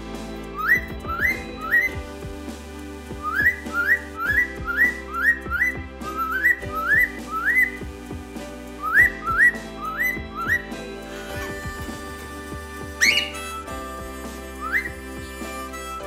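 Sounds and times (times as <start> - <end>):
background music with held notes: 0.0 - 16.0
upward-sliding whistles: 0.5 - 2.0, 3.2 - 7.8, 8.8 - 16.0.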